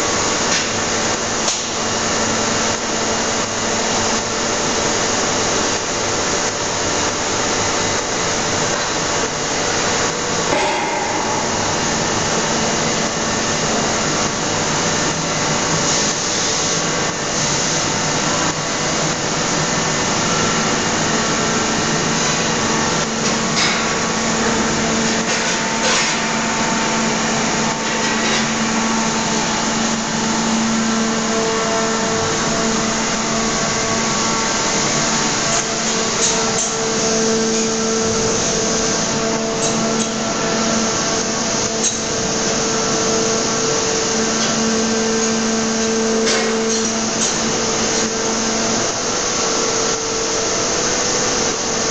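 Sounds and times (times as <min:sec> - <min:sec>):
machinery hum: 0:00.0 - 0:51.9.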